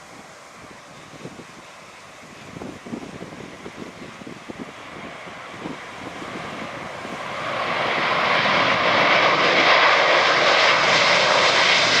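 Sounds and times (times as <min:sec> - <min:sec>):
jet airliner passing: 0:00.0 - 0:12.0.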